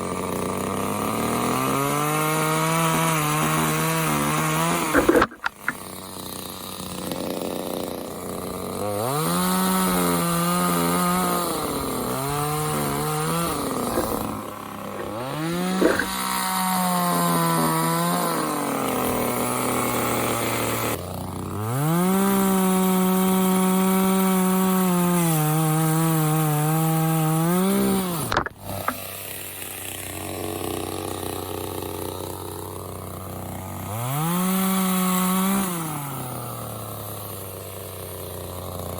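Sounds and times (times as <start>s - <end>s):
chainsaw cutting wood: 0.0s - 38.9s
chainsaw engine revving: 0.0s - 38.9s.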